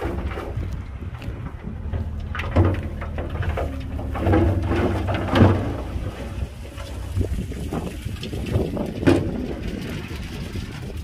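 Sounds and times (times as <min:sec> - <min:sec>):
diesel engine running: 0:00.0 - 0:11.0
soil and rocks sliding from truck: 0:00.0 - 0:11.0.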